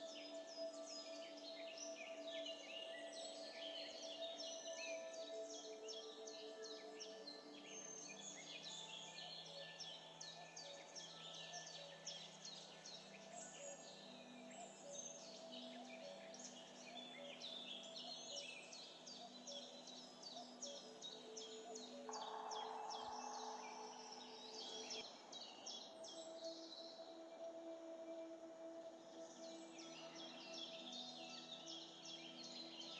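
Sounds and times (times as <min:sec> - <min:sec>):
soft ambient music: 0:00.0 - 0:32.9.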